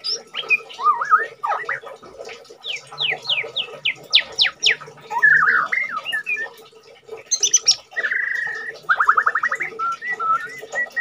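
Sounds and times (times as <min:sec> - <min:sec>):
bird singing whistles and warbles: 0:00.0 - 0:02.0, 0:02.6 - 0:06.7, 0:07.3 - 0:11.0.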